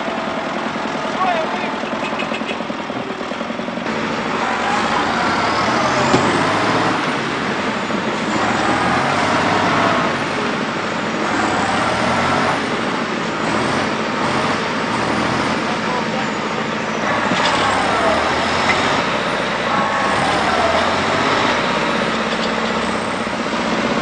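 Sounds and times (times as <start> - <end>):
diesel tractor engines straining: 0.0 - 24.0.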